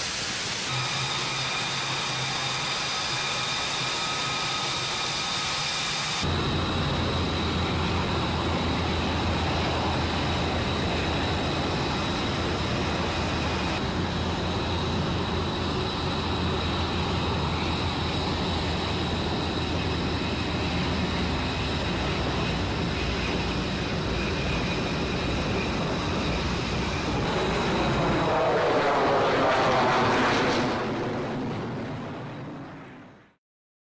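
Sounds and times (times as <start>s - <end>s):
helicopter rotor hum: 0.0s - 31.8s
helicopter turbine whine: 0.0s - 32.9s
aircraft passing close: 0.0s - 33.2s.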